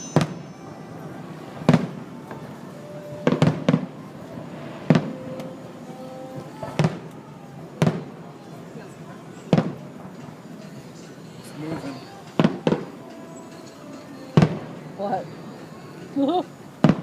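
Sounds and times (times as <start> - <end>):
fireworks exploding: 0.0 - 10.6, 11.7 - 13.4, 14.3 - 15.4, 16.4 - 17.0
faint music: 0.0 - 17.0.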